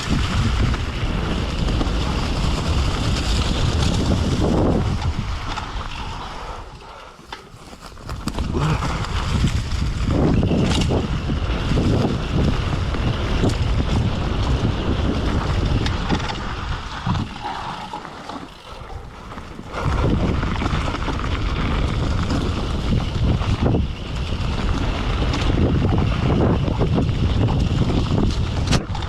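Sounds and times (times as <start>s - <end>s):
bike rolling over rough trail: 0.0s - 29.0s
wind buffeting microphone: 0.0s - 29.0s.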